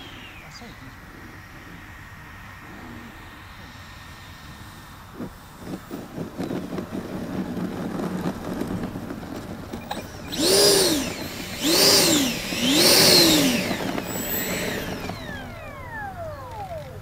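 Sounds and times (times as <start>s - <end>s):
electric ducted fan whine: 0.0s - 17.0s.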